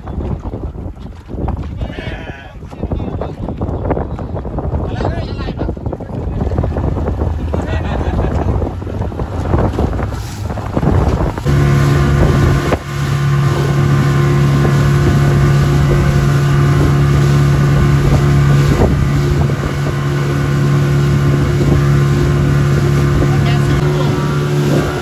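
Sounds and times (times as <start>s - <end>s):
wind on microphone: 0.0s - 25.0s
outboard motor drone: 3.4s - 25.0s.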